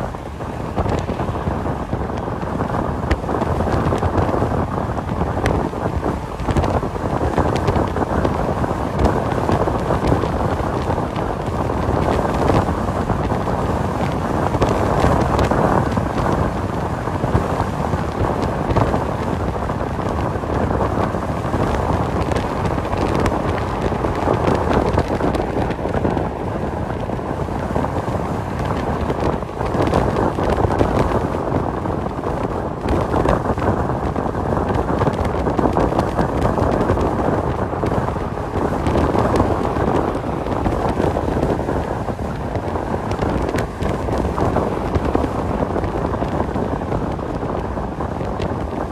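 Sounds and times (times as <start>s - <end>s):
road and engine rumble in truck cab: 0.0s - 48.9s.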